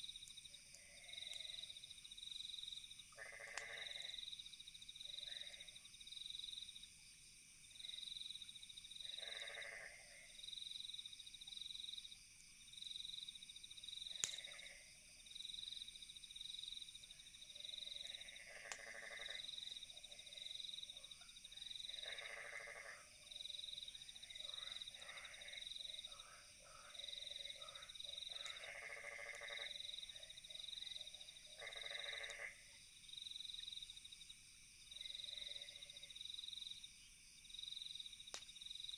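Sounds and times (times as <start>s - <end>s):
frogs croaking: 0.0s - 6.9s, 7.7s - 38.9s
campfire crackle: 0.0s - 38.9s
crickets chirping: 0.0s - 38.9s.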